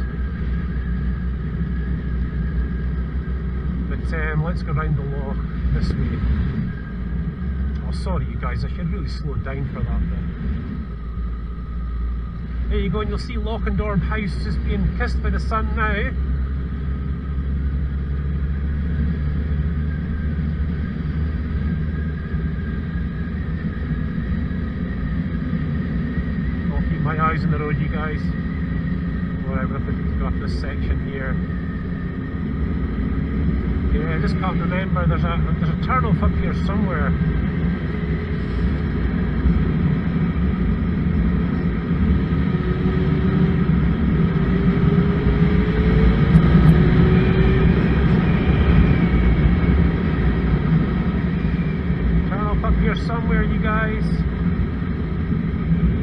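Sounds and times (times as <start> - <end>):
faint engine whine: 0.0 - 56.0
wind rushing on microphone: 0.0 - 56.0.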